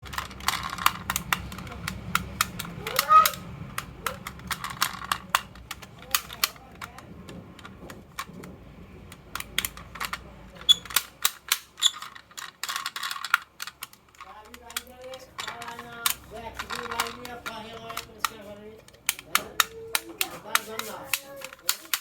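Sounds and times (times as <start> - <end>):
marbles clicking down track: 0.0 - 8.4, 9.0 - 22.0.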